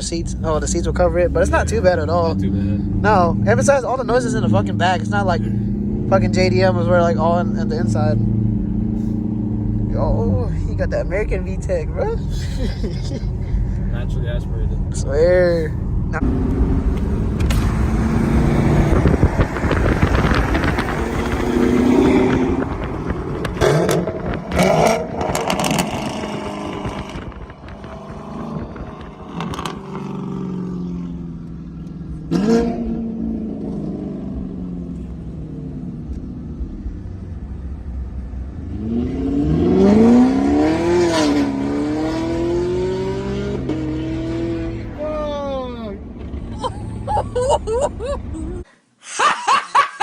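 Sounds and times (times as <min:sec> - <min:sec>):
car engine revving: 0:00.0 - 0:48.6.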